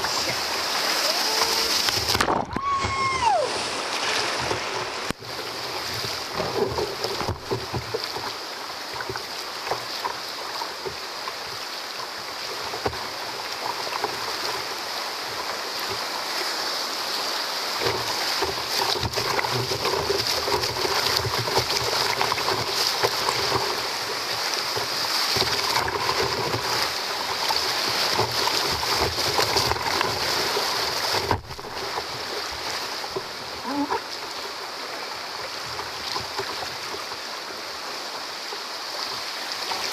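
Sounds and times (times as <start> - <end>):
waves breaking over kayak bow: 0.0 - 39.9
whitewater rapids rushing: 0.0 - 39.9.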